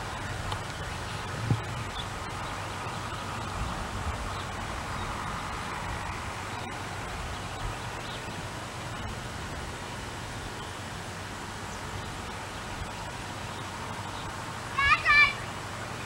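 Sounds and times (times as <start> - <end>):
outdoor background noise: 0.0 - 16.0
tape hiss: 0.0 - 16.0.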